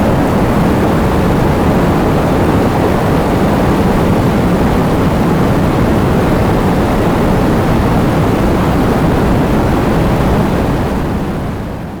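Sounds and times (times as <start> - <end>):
gusting wind: 0.0 - 12.0.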